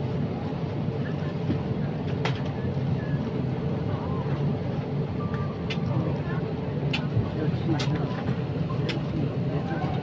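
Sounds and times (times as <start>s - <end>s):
airliner cabin drone: 0.0s - 10.0s
faint passenger voices: 0.0s - 10.0s.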